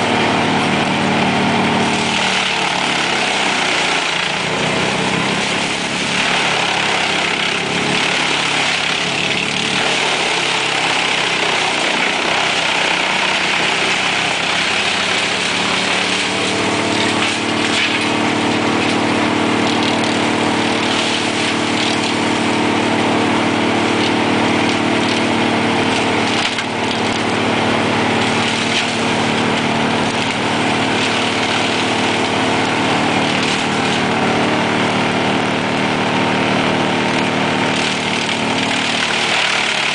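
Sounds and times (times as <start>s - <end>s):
low machine hum: 0.0s - 39.9s
wood chipper running: 0.0s - 39.9s
branches cracking and splintering: 1.8s - 34.4s, 37.0s - 39.9s.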